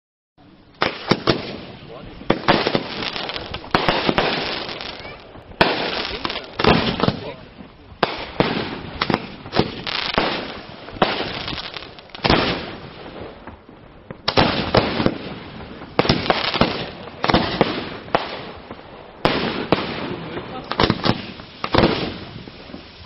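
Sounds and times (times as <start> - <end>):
firework shells bursting: 0.7 - 23.0.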